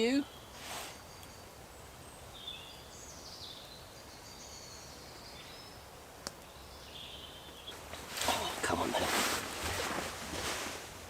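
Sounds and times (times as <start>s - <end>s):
quiet woodland background: 0.0s - 11.0s.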